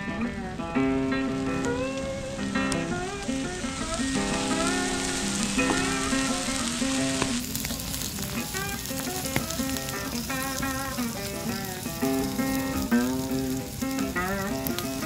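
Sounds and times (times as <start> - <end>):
background music: 0.0 - 15.0
green onions sizzling on grill: 0.0 - 15.0.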